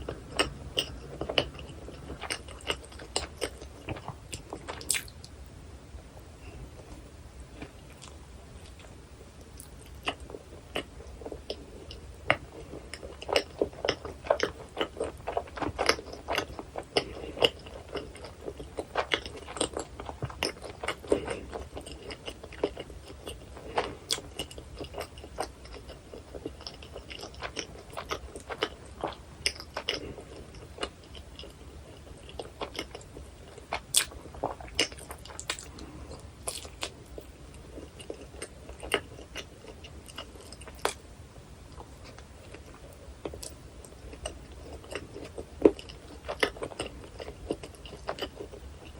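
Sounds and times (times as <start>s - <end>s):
chewing food: 0.0s - 5.4s, 7.6s - 41.1s, 41.7s - 48.9s.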